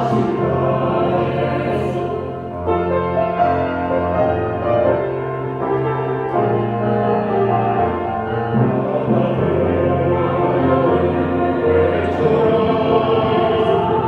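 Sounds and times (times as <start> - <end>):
piano playing chords: 0.0 - 14.0.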